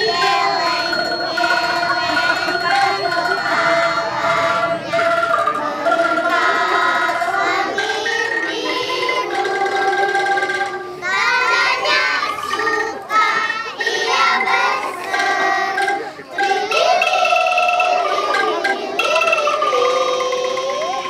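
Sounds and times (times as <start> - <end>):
children's choir singing: 0.0 - 21.0.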